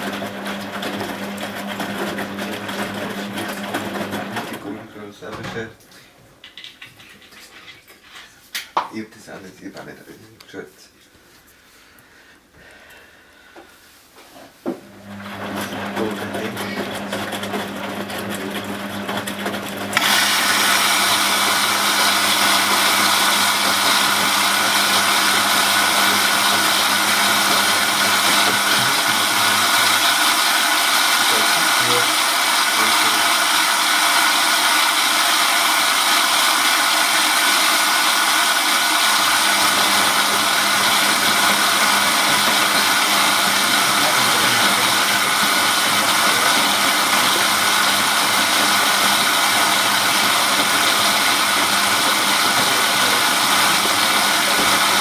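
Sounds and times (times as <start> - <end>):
washing machine running: 0.0 - 5.7, 14.8 - 55.0.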